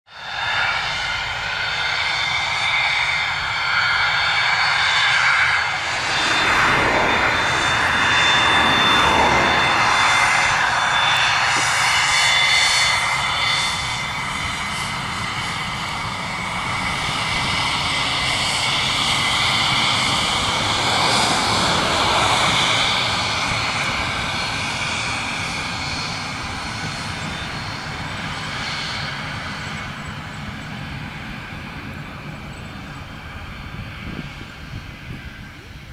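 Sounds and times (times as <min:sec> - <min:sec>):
jet engines whining: 0:00.1 - 0:35.9.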